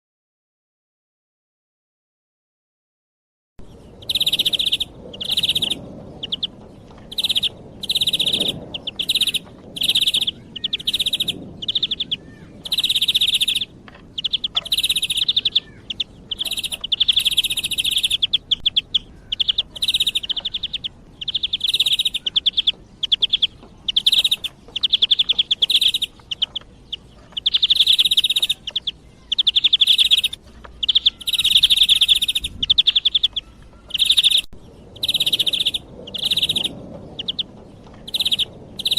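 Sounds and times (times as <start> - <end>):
bird trilling call: 3.9 - 38.9.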